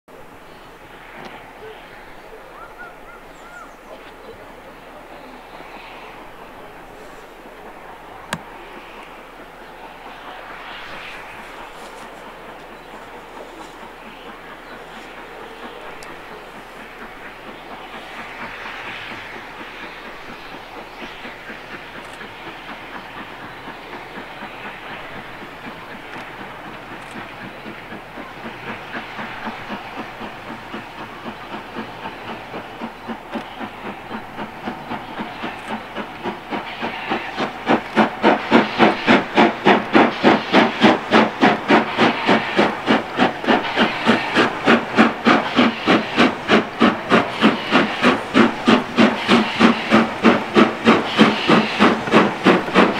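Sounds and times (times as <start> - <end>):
hissing steam: 0.1 - 52.9
steam locomotive chuffing: 0.1 - 52.9.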